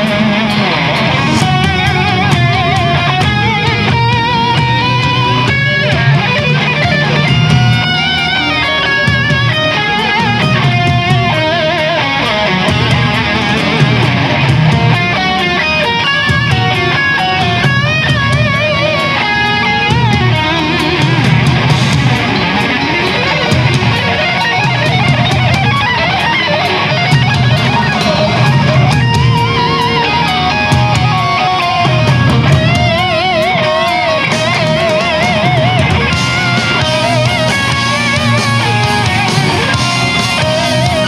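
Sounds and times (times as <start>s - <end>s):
distorted electric guitar lead: 0.0s - 41.0s
heavy pulsing low rhythm: 0.0s - 41.0s.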